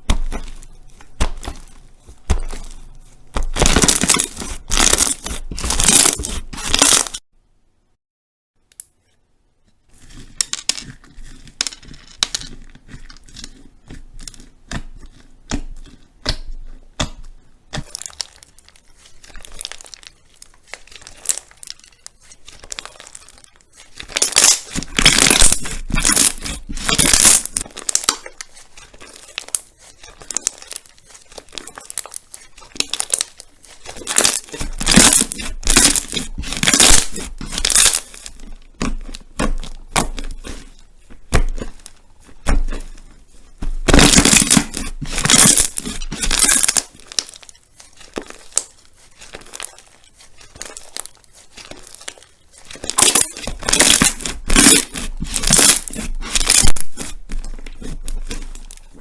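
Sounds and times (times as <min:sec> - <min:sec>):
crunchy slime crackling: 0:00.0 - 0:07.2, 0:09.9 - 0:59.0.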